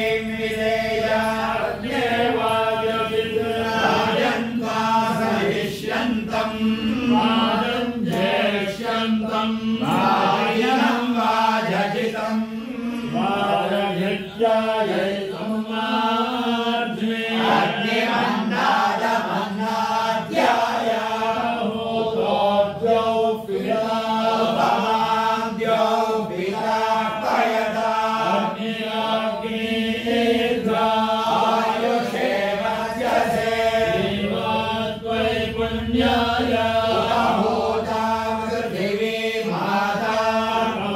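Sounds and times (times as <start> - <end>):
men chanting in unison: 0.0 - 40.9.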